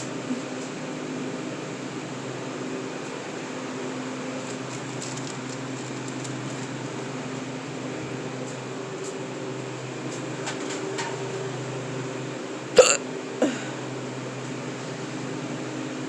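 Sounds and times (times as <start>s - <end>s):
refrigeration machinery humming: 0.0s - 16.0s.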